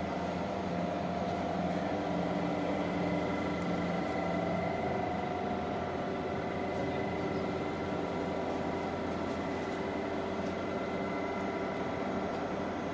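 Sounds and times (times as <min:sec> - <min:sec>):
lathe mechanical hum: 0:00.0 - 0:12.9.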